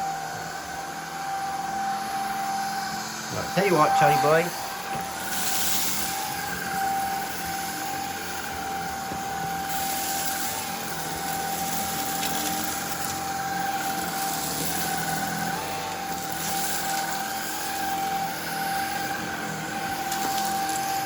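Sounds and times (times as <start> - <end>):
vacuum cleaner motor whine: 0.0 - 21.0.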